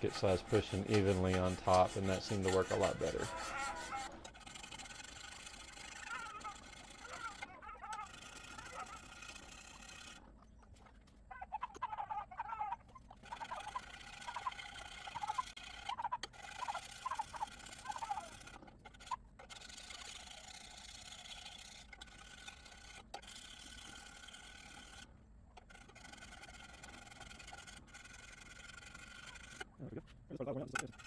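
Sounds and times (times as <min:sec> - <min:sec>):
hand file scraping metal: 0:00.0 - 0:10.3, 0:13.1 - 0:29.8, 0:30.6 - 0:31.0.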